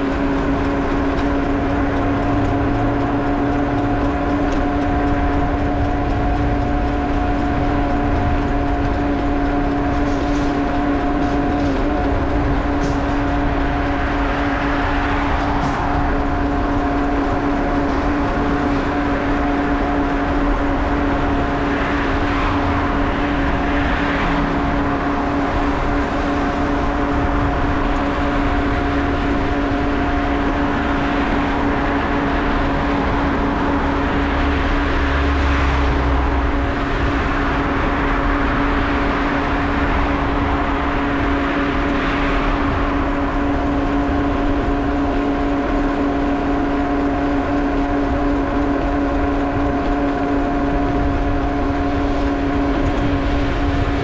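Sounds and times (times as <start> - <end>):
bicycle tyres rolling: 0.0 - 54.0
low hum: 0.0 - 54.0
wind rushing: 0.0 - 54.0.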